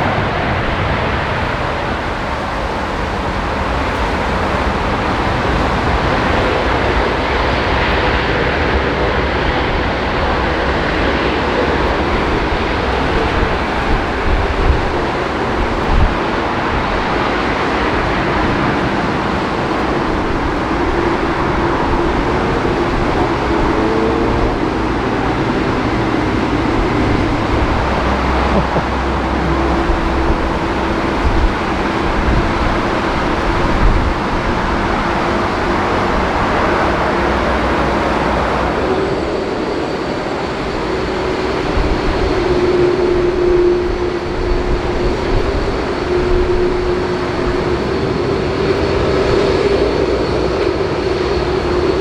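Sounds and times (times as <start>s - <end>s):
heavy rain: 0.0s - 52.0s
jet aircraft engines: 0.0s - 52.0s.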